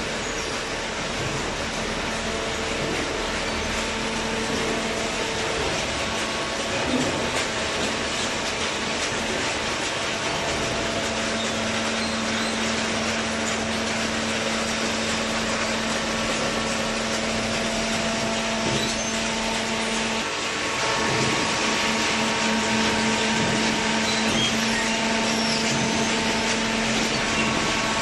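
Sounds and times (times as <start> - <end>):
baler machine humming: 0.0 - 28.0.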